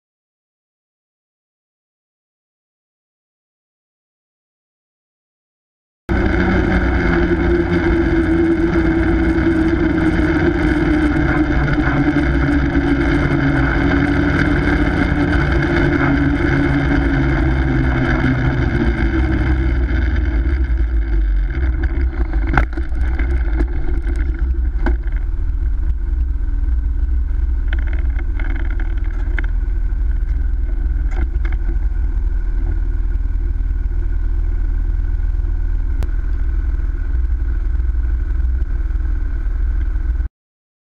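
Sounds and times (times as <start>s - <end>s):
snowmobile engine: 6.1s - 40.3s
wind rumble on microphone: 6.1s - 40.3s.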